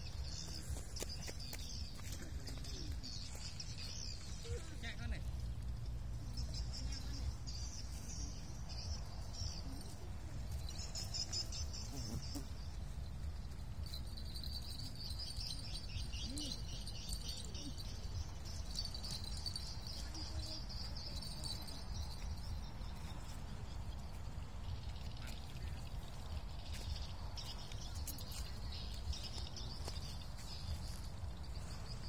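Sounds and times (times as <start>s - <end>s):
small birds chirping in trills: 0.0s - 32.0s.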